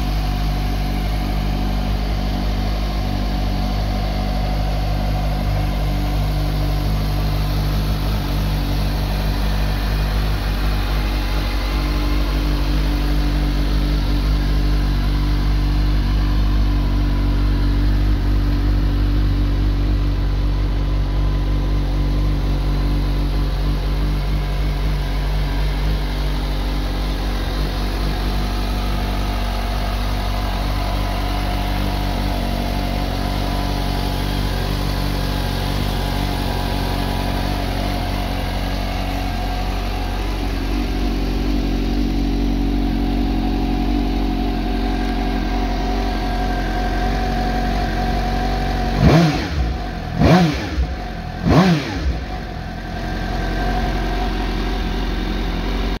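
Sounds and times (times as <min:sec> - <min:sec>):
engine revving: 0:00.0 - 0:56.0
motorcycle engine idling: 0:00.0 - 0:56.0.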